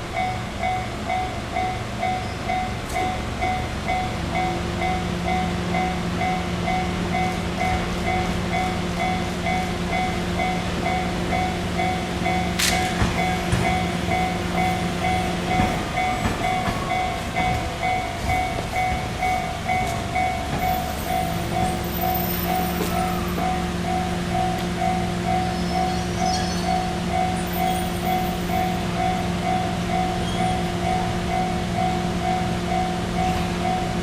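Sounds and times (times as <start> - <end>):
electric train moving slowly: 0.0 - 34.0
level-crossing warning bell: 0.0 - 34.0
low hum from train: 0.0 - 34.0.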